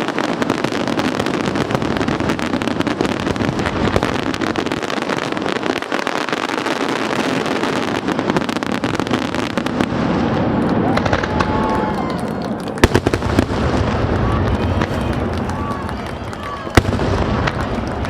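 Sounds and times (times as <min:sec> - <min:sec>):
fireworks booms: 0:00.0 - 0:18.0
fireworks crackling: 0:00.0 - 0:18.0.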